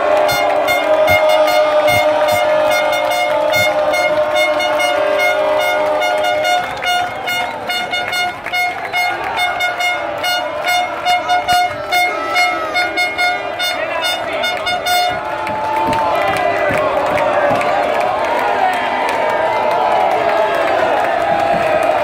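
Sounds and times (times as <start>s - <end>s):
horn blasting and tooting: 0.0s - 22.0s
noisy crowd: 0.0s - 22.0s.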